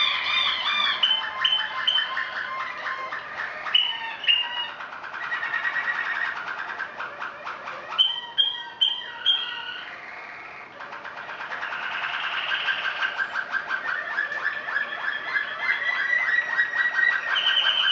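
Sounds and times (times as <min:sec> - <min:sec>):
canaries singing trills: 0:00.0 - 0:17.9.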